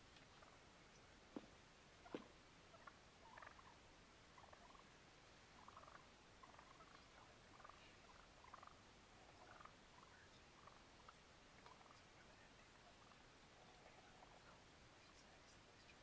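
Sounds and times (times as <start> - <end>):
turkeys calling softly: 0.0 - 16.0.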